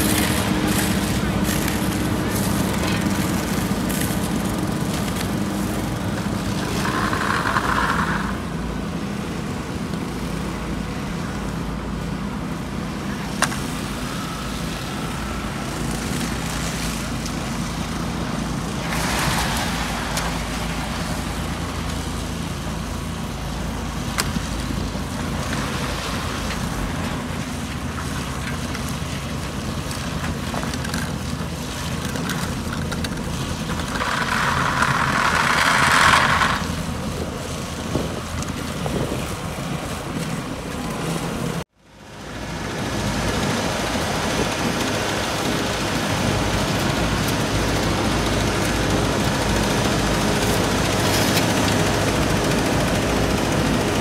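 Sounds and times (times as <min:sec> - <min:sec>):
diesel engines droning: 0:00.0 - 0:54.0.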